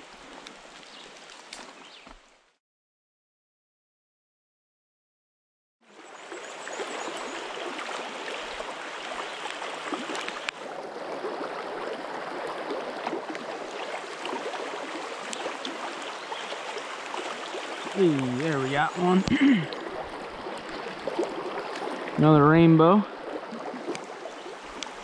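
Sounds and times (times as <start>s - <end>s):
creek water running: 0.0s - 2.6s, 5.8s - 25.0s.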